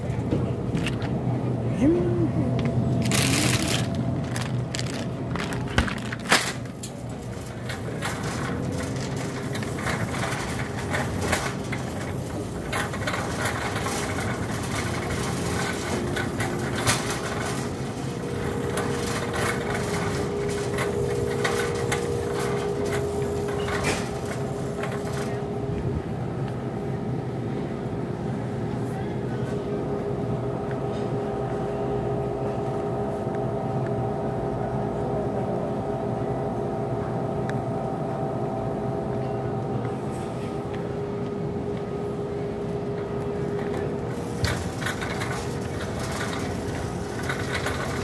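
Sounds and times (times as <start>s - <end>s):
general store noise: 0.0s - 48.0s
refrigerated display cases humming: 0.0s - 48.0s.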